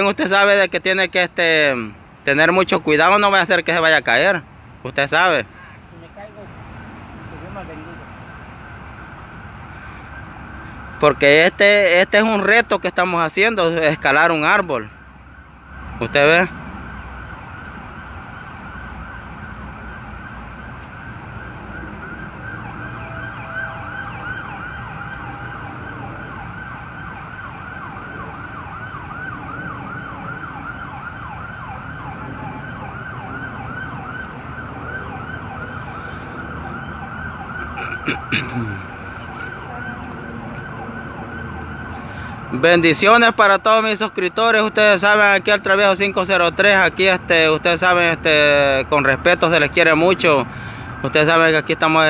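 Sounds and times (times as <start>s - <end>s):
siren yelping: 5.2s - 52.0s.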